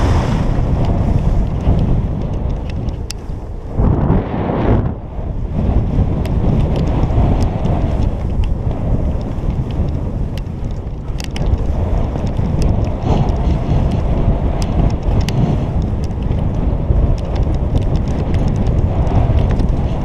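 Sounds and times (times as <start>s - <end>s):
wind buffeting microphone: 0.0s - 20.0s
light clicks and ticks: 0.6s - 3.4s, 6.0s - 20.0s.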